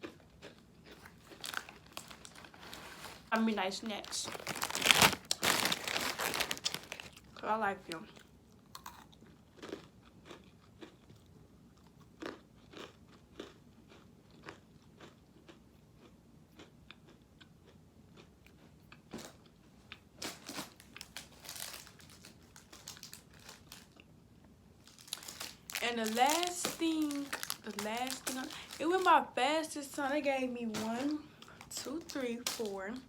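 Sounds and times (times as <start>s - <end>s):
crunchy snack chewing: 0.0s - 3.3s, 4.3s - 7.4s, 8.1s - 24.1s, 24.8s - 29.1s.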